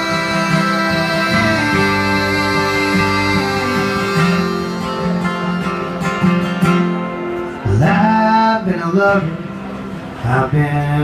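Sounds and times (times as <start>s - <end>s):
acoustic guitar through sound system: 0.0s - 11.0s.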